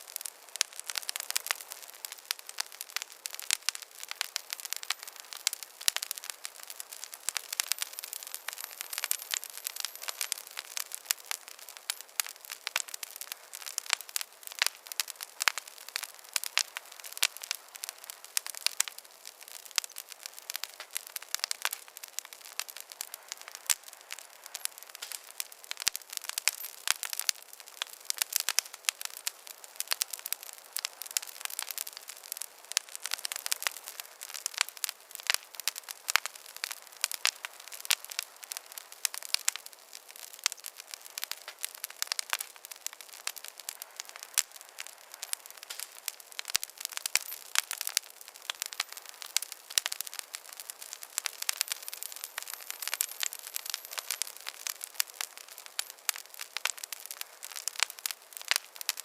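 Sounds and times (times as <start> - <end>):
campfire crackling and popping: 0.0 - 59.0
soft fire hiss: 0.0 - 59.0.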